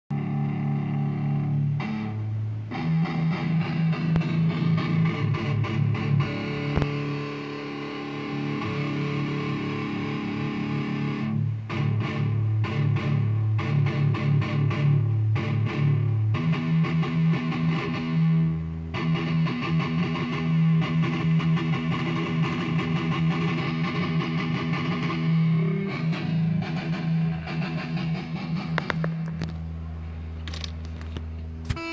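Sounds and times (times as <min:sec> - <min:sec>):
electric guitar through amp: 0:00.1 - 0:31.9.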